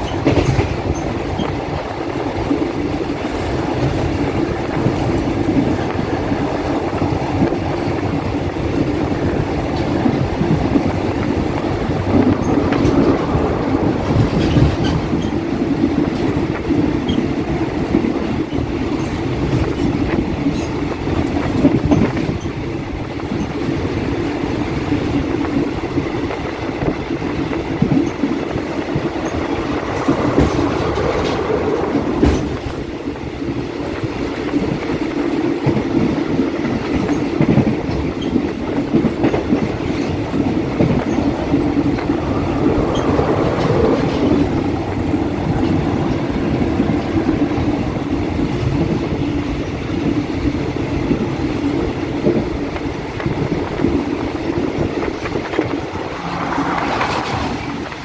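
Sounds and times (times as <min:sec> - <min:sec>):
train running rumble: 0:00.0 - 0:58.0
train wheels clattering over rail joints: 0:00.0 - 0:58.0.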